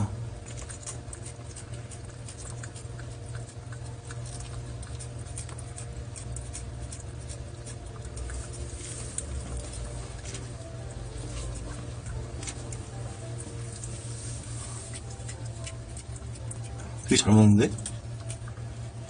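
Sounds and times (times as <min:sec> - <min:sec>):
cat licking and lapping: 0:00.0 - 0:19.0.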